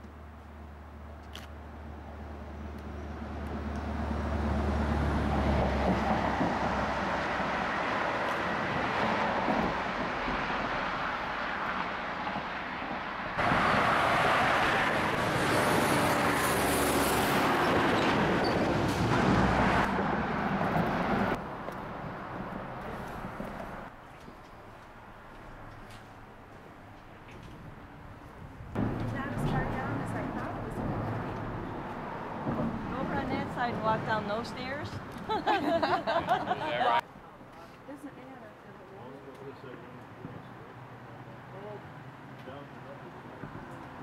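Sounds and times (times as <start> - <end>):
highway traffic on steel bridge: 0.0 - 44.0.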